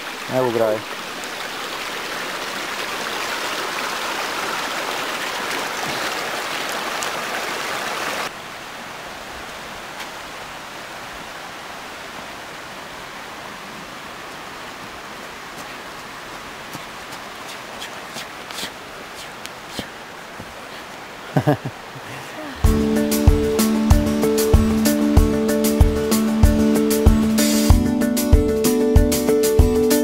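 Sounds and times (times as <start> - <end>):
river water rushing over stones: 0.0 - 24.8.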